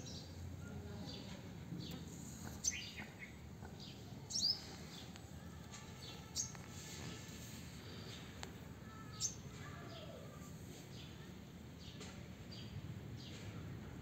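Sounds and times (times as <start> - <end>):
birds chirping: 0.0 - 13.5.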